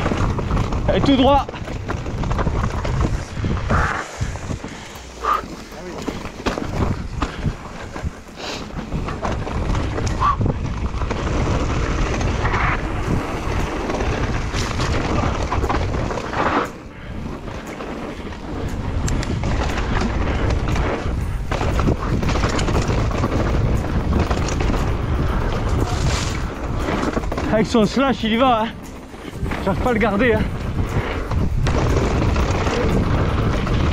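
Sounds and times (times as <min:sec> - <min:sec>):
bike knocks and rattles: 0:00.0 - 0:33.9
tyres rumbling on rocky dirt: 0:00.0 - 0:33.9
wind buffeting microphone: 0:00.0 - 0:33.9.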